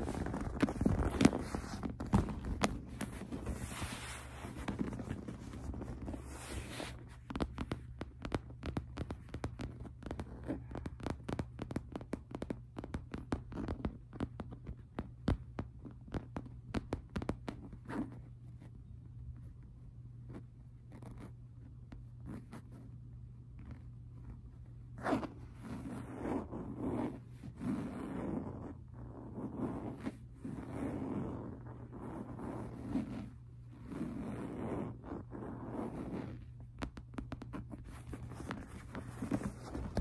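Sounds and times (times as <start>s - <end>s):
fingertips tapping and scratching: 0.0s - 40.0s
steady low hum: 0.0s - 40.0s.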